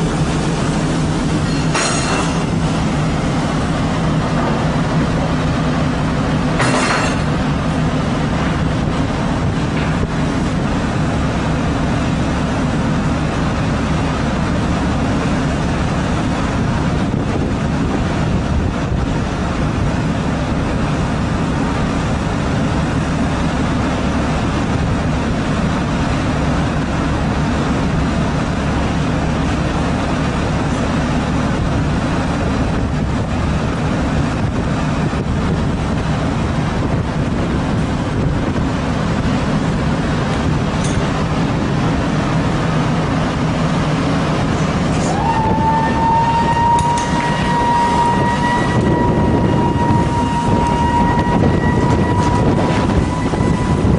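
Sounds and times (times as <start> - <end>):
boat engine running: 0.0 - 53.9
water noise: 0.0 - 53.9
wind noise on microphone: 0.0 - 53.9.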